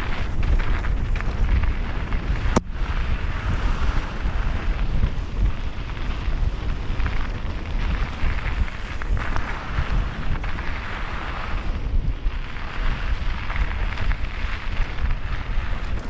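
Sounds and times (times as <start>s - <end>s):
bike rumbling and rattling: 0.0s - 16.0s
wind buffeting microphone: 0.0s - 16.0s.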